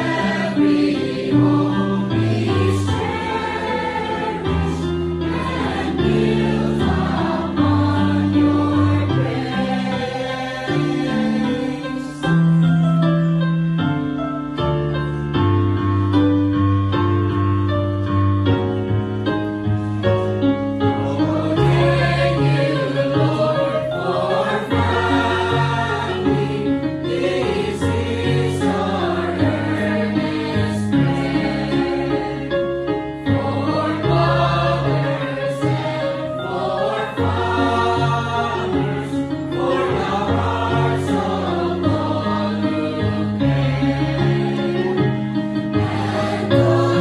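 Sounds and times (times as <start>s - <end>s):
choir singing a hymn: 0.0s - 12.8s, 20.8s - 47.0s
keyboard accompaniment: 0.0s - 47.0s.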